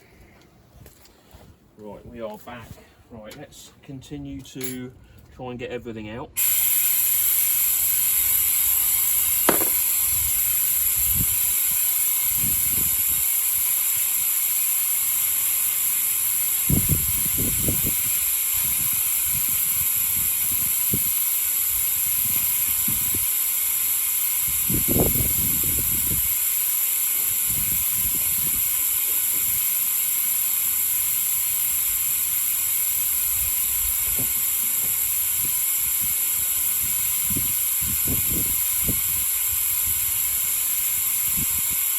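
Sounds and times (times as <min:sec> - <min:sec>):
oil extractor hissing: 0:06.4 - 0:41.9.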